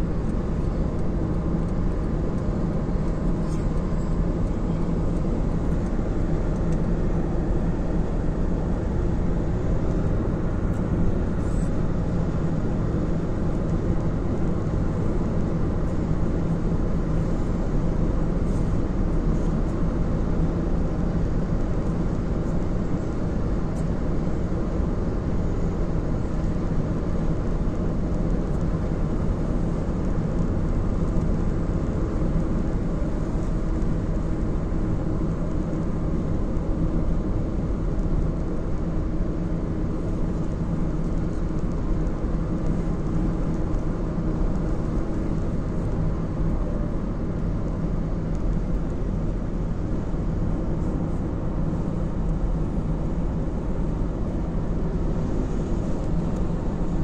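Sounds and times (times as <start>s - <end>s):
car road noise from inside: 0.0s - 57.0s.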